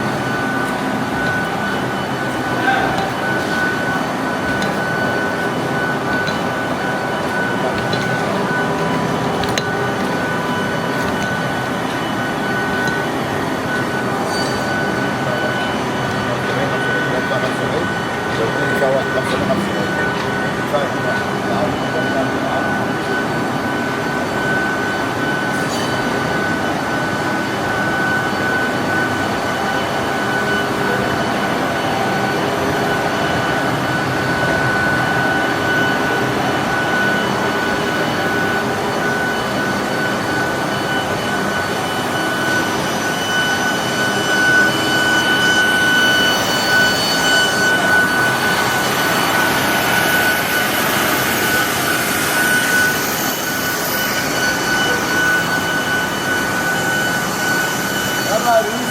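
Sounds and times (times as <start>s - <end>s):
lathe running with high whine: 0.0s - 58.9s.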